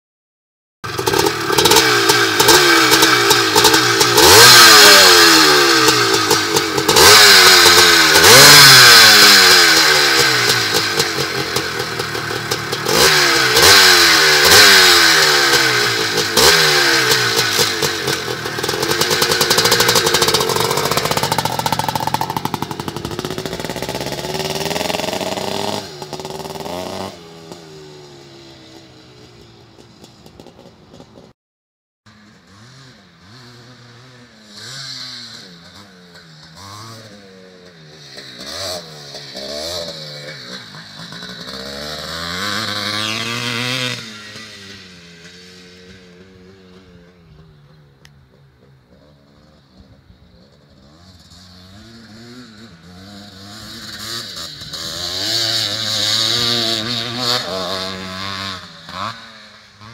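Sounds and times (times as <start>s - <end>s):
two-stroke motorcycle engine revving: 0.8s - 31.3s, 32.1s - 59.9s.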